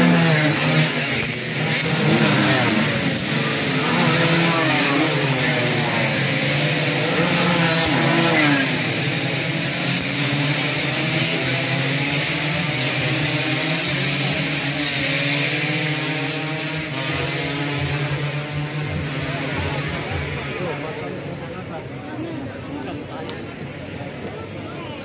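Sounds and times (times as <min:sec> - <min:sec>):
race motorcycles revving: 0:00.0 - 0:25.0.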